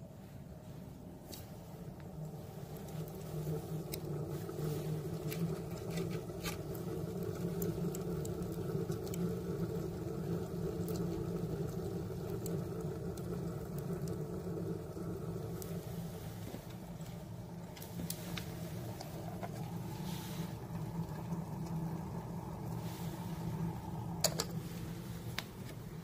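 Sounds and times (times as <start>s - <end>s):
burning wood crackling: 0.0s - 26.0s
wood stove roaring: 0.0s - 26.0s.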